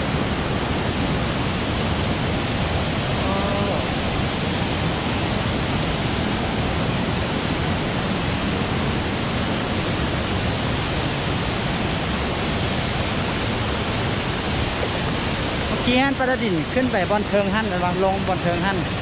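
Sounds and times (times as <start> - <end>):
waterfall rushing into pool: 0.0 - 19.0.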